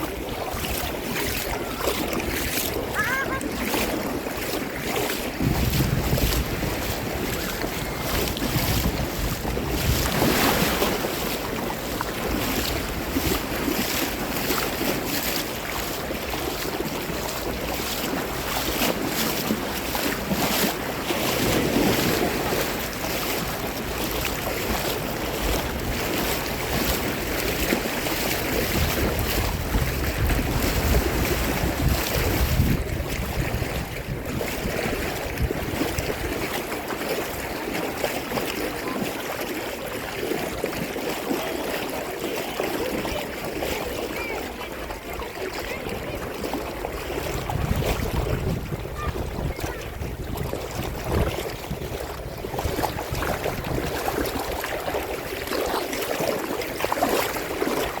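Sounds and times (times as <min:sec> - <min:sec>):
wind buffeting microphone: 0:00.0 - 0:37.7, 0:43.6 - 0:58.0
sea water surging: 0:00.0 - 0:58.0.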